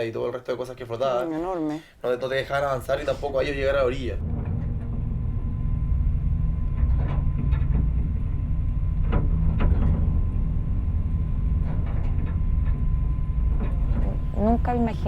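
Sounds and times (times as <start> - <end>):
loud low rumble: 2.6 - 15.0.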